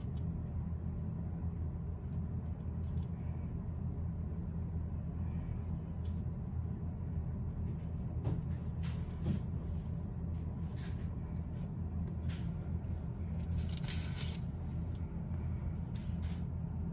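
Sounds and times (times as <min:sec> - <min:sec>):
low background hum: 0:00.0 - 0:16.9.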